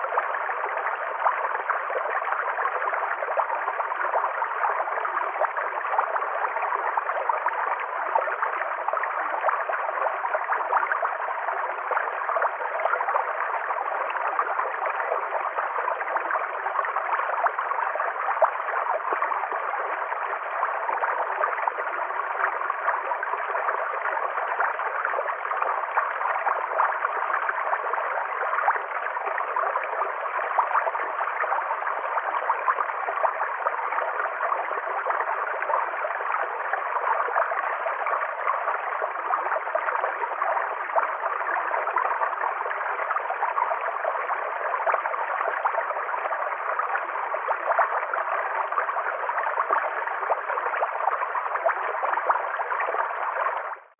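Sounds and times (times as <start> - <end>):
stream running over stones: 0.0 - 53.9.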